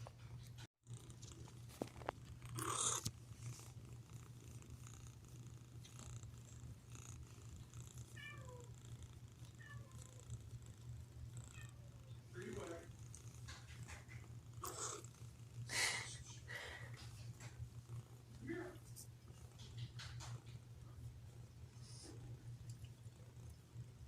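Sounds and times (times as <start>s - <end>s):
cat purring: 0.1s - 24.0s.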